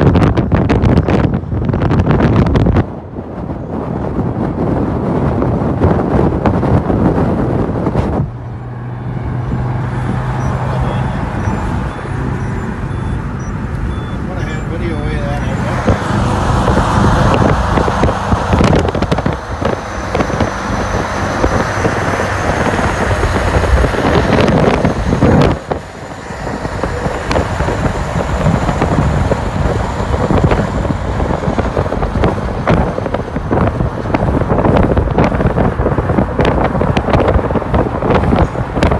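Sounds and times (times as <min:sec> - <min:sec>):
car road noise: 0:00.0 - 0:38.9
lorry engine running: 0:00.0 - 0:38.9
wind buffeting on microphone: 0:00.0 - 0:38.9.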